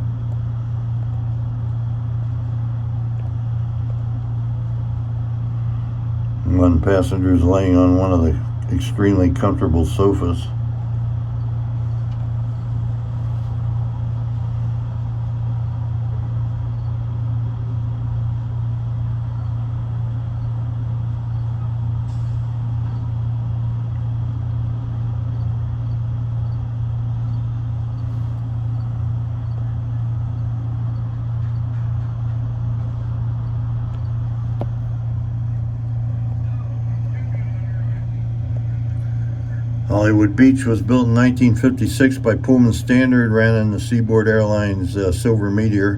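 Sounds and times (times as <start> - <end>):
low hum inside railcar: 0.0 - 45.9.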